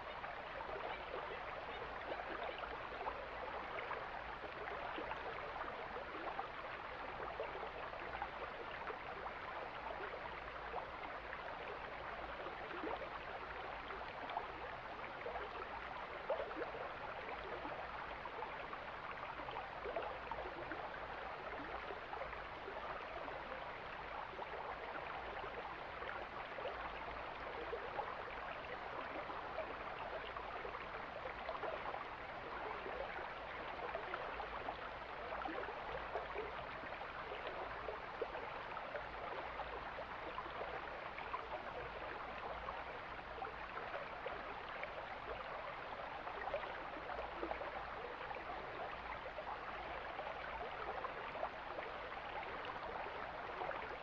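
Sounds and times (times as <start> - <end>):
mountain stream flowing: 0.0 - 54.0.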